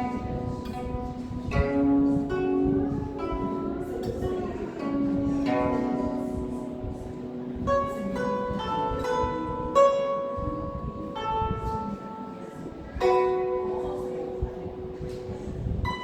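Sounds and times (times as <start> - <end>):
zither plucked notes and chords: 0.0 - 16.0.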